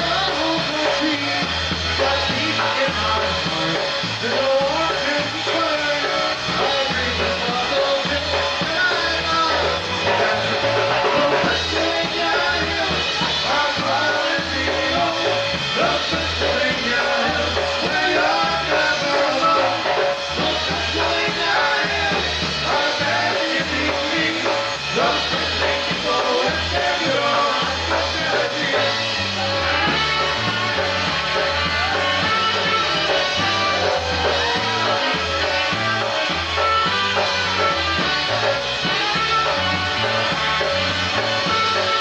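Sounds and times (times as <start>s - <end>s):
polka band playing: 0.0s - 42.0s.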